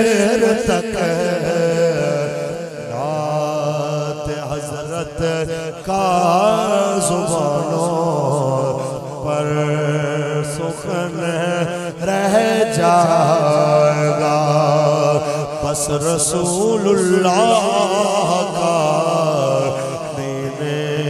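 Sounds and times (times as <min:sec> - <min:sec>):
man chanting devotional verse: 0:00.0 - 0:21.0.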